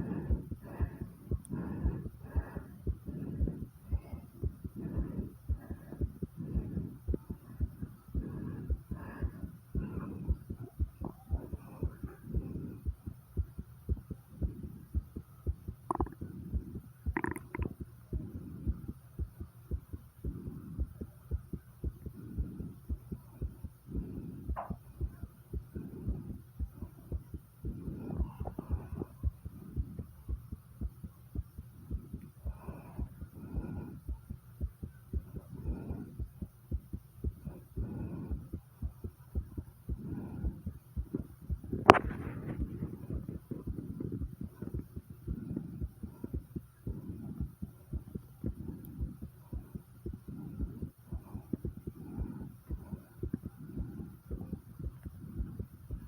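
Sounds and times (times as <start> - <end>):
heavy breathing: 0.0 - 19.0, 21.8 - 30.2, 31.8 - 36.4, 37.2 - 56.0
fast heartbeat thumps: 0.0 - 56.0.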